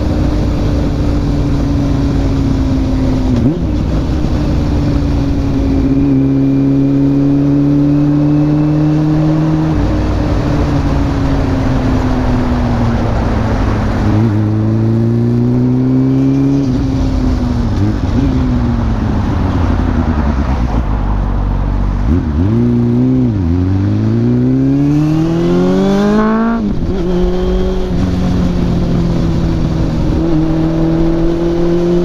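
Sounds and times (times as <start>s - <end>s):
rushing wind: 0.0s - 32.0s.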